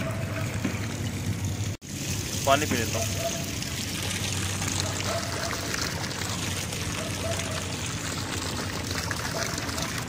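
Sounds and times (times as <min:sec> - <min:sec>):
water pouring from a tap: 0:01.6 - 0:10.0.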